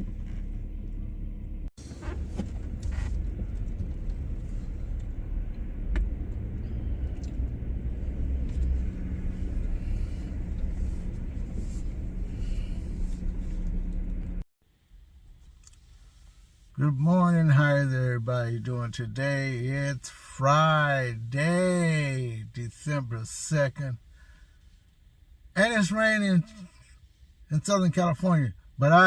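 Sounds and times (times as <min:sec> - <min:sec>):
car road rumble: 0:00.0 - 0:27.8.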